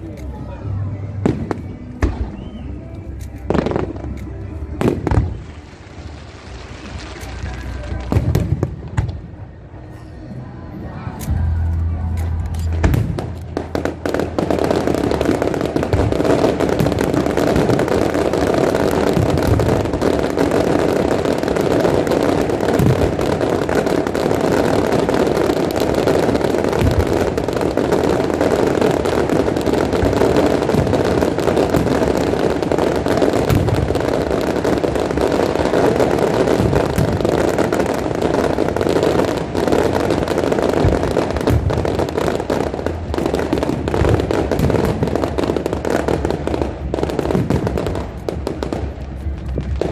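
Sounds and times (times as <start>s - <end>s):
fireworks crackling and popping: 0.0s - 49.9s
fireworks booms: 1.2s - 2.7s, 3.5s - 9.4s, 12.4s - 49.9s.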